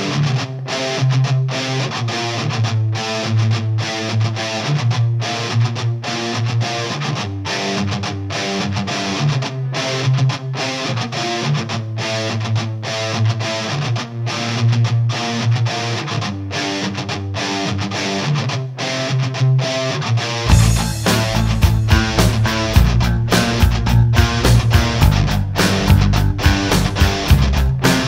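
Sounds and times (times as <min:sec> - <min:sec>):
rock music with electric guitar: 0:00.0 - 0:28.0.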